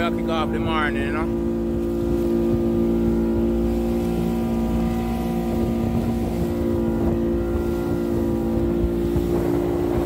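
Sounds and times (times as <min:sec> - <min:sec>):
outboard motor droning: 0:00.0 - 0:10.0
water rushing past hull: 0:00.0 - 0:10.0.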